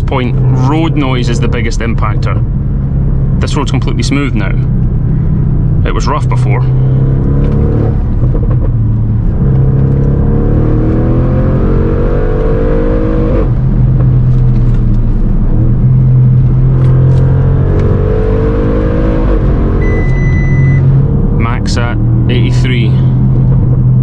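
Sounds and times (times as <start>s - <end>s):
car engine accelerating: 0.0s - 24.0s
tyre road noise: 0.0s - 24.0s.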